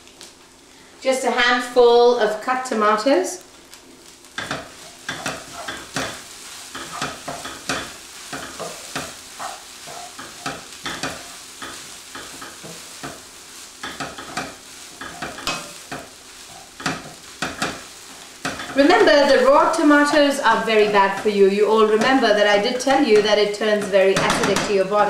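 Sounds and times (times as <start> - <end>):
food sizzling in a frying pan: 0.0 - 25.0
wooden spatula scraping a pan: 4.4 - 25.0.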